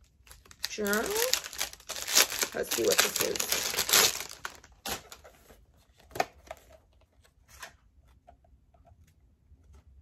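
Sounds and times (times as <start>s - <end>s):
paper and card rustling: 0.3s - 8.3s.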